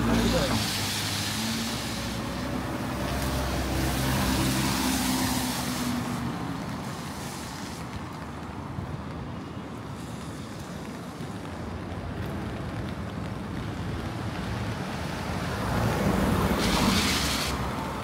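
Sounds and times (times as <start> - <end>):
hiss of wet street in rain: 0.0 - 18.0.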